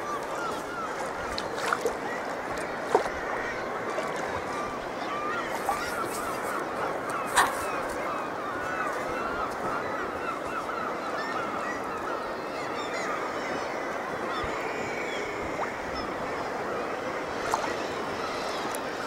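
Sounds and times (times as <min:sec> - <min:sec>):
sea water washing: 0:00.0 - 0:12.0, 0:13.7 - 0:19.0
birds calling in a dense chorus: 0:00.0 - 0:19.0.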